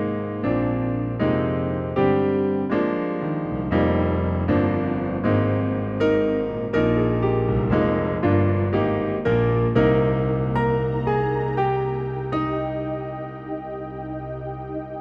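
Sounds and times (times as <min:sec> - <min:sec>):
digital piano chords: 0:00.0 - 0:15.0.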